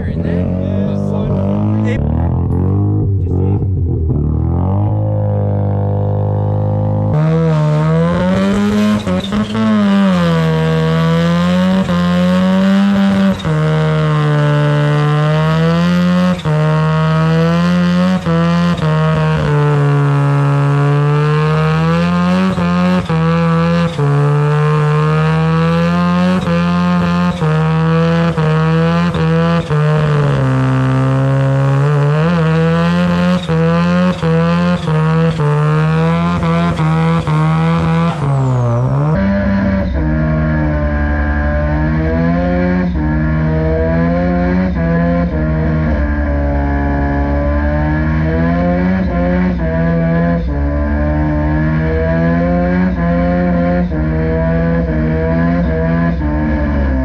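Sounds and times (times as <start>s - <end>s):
rotary engine revving hard: 0.0s - 57.0s.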